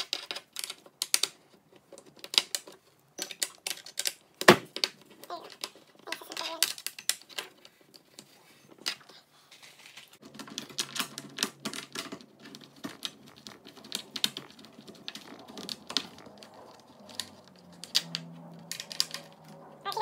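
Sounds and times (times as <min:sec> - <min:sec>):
clicks and taps of screws: 0:00.0 - 0:09.0, 0:10.2 - 0:19.6.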